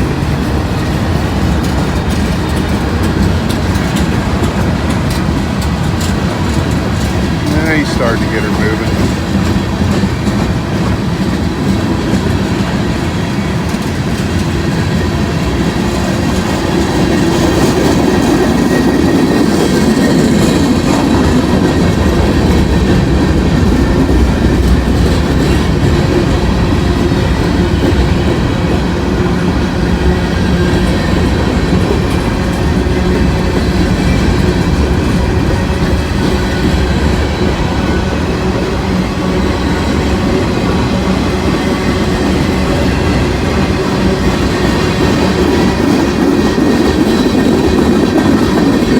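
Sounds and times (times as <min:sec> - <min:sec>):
freight train rolling past: 0:00.0 - 0:48.9.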